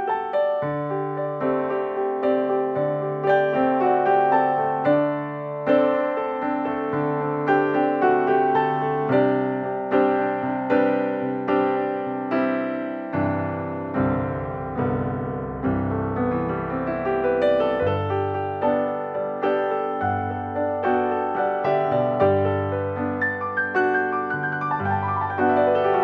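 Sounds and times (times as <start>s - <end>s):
slow gentle piano music: 0.0s - 26.0s.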